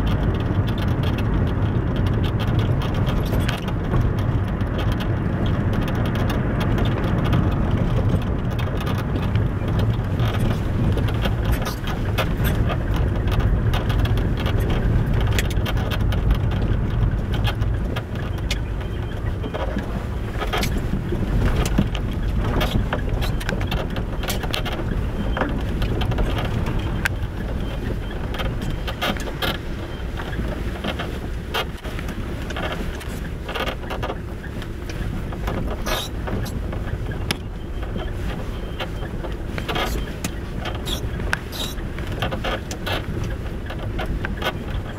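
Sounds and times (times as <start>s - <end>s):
car road and engine rumble: 0.0s - 44.9s
suspension strut squeaking: 0.3s - 44.9s.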